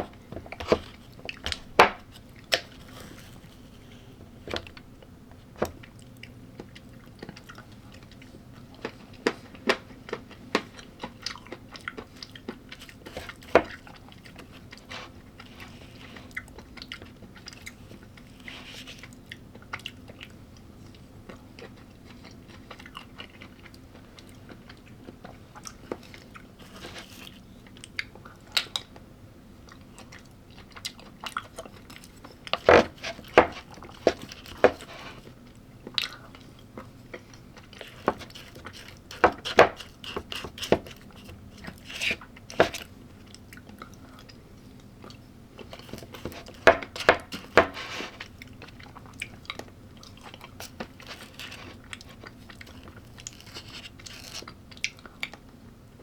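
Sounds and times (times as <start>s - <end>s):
person chewing crunchy food: 5.6s - 29.0s, 29.6s - 55.4s.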